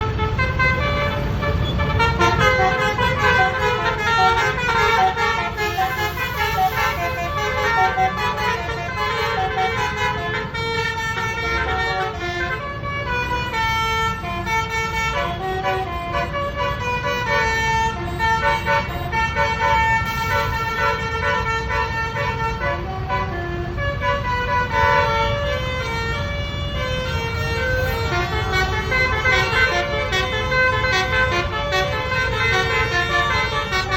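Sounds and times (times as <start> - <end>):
engines rumbling in traffic: 0.0 - 33.9
multi-tone bus horn playing tune: 0.0 - 33.9.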